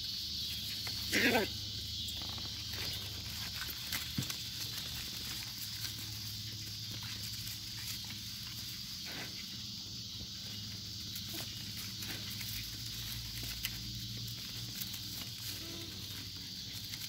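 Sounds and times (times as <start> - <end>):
puppies scrambling over dry leaves: 2.0 - 17.0.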